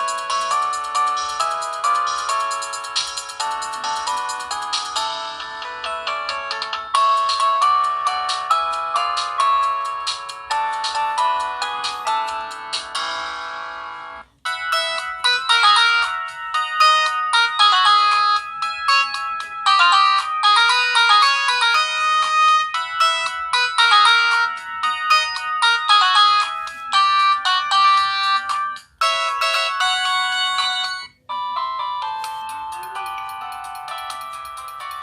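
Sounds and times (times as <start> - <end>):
phone melody ringtone: 0.0 - 35.0.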